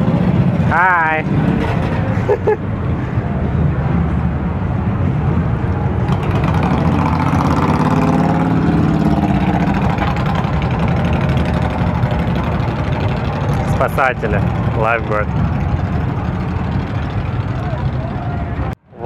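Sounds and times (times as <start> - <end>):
engine speeding up: 0.0 - 19.0
traffic engines rumbling: 0.0 - 19.0.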